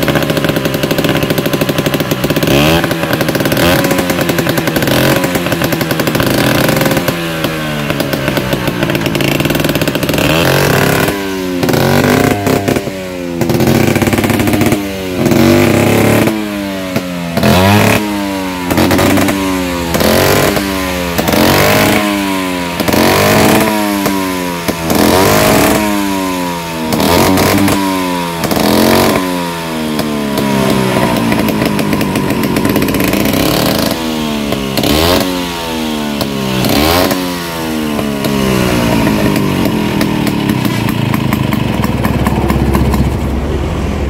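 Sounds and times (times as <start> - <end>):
scooter engine revving: 0.0 - 44.0.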